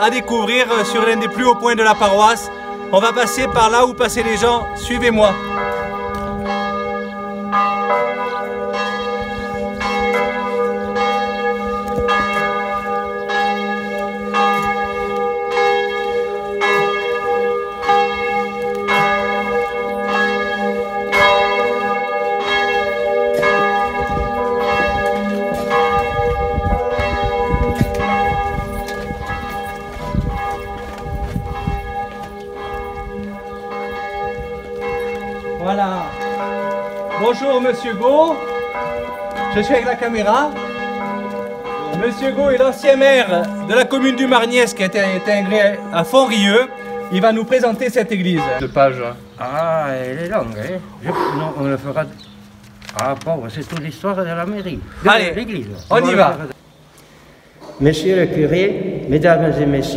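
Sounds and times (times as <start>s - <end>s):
church bell tolling: 0.0s - 49.5s.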